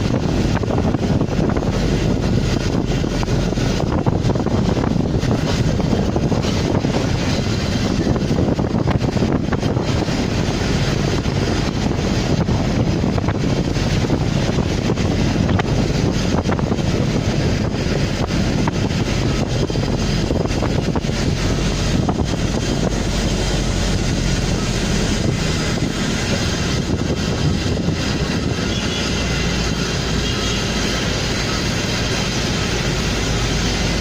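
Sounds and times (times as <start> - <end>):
vehicle engine and road noise: 0.0 - 34.0
wind rushing over microphone: 0.0 - 34.0.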